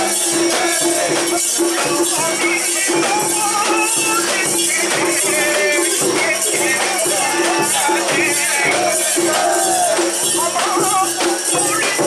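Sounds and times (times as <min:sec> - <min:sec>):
festival music with gliding melody: 0:00.0 - 0:12.0.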